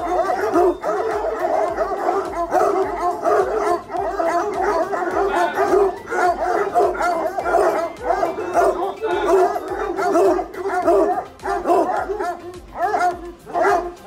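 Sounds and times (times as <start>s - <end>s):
pack of hounds barking: 0.0s - 14.0s.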